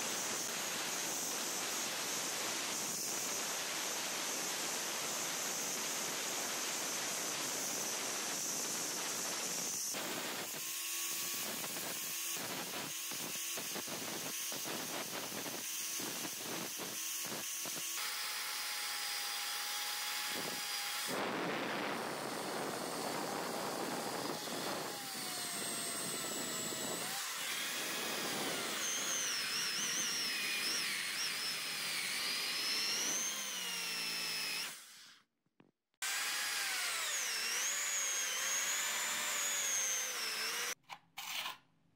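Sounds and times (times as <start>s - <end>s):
drill whining with abrasive wheel: 0.0s - 35.2s, 36.0s - 41.5s.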